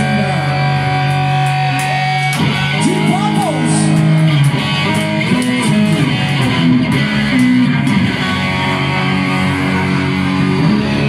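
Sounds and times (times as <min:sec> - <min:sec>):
electric guitar lead: 0:00.0 - 0:11.0
live band playing: 0:00.0 - 0:11.0.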